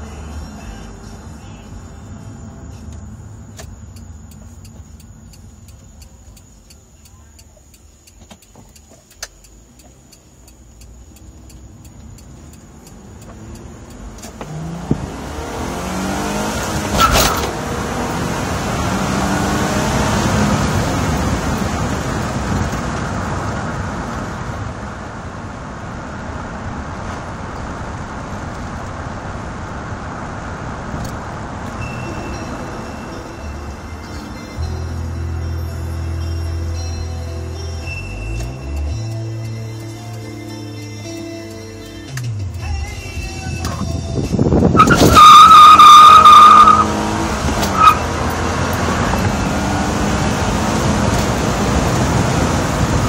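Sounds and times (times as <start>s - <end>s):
car engine accelerating: 7.7s - 53.0s.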